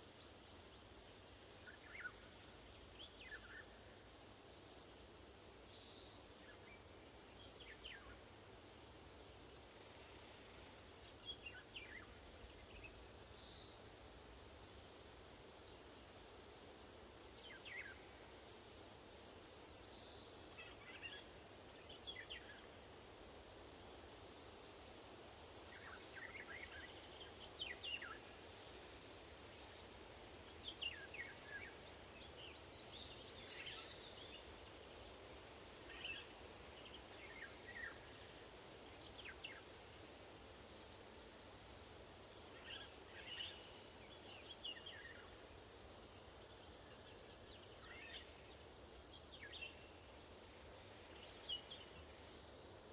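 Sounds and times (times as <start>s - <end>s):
wind hiss: 0.0s - 52.9s.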